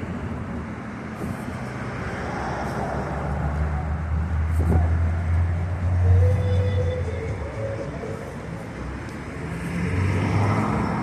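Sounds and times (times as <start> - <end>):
motor vehicle passing: 1.0 - 11.0.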